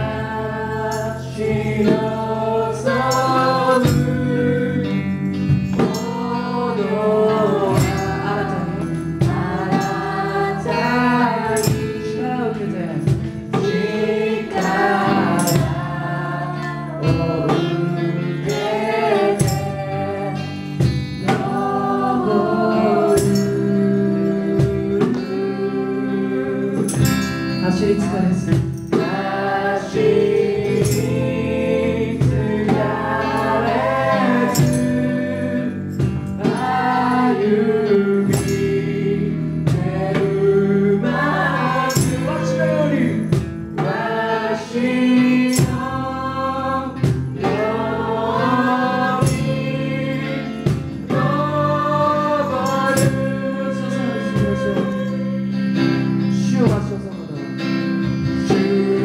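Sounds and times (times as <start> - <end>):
children singing: 0.0 - 13.0, 13.6 - 28.0, 28.9 - 43.2, 43.8 - 56.6, 58.3 - 59.0
instrumental accompaniment: 0.0 - 59.0
tambourines shaking: 0.8 - 25.3, 26.7 - 56.8.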